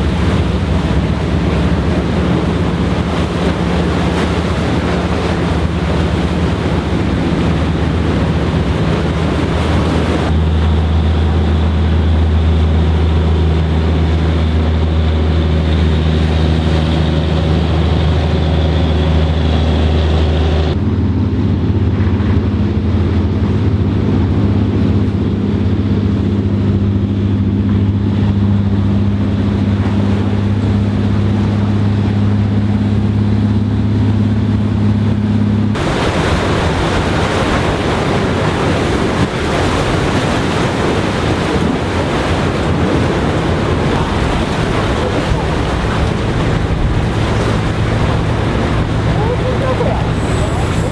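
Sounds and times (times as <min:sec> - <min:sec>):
low engine drone: 0:00.0 - 0:50.9.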